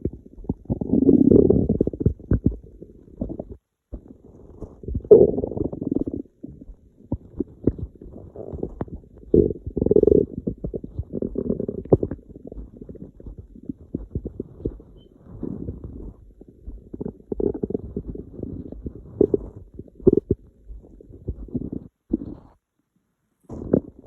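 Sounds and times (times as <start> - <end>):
stomach rumbling and gurgling: 0.0 - 24.0.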